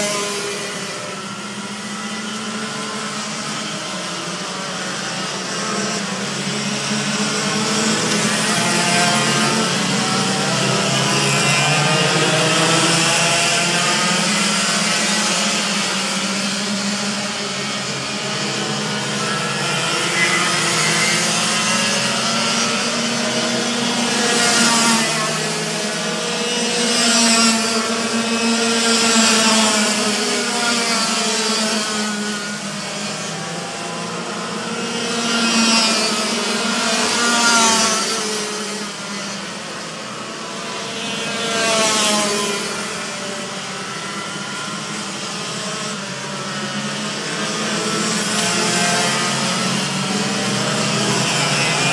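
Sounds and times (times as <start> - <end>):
racing kart engines buzzing: 0.0 - 51.9.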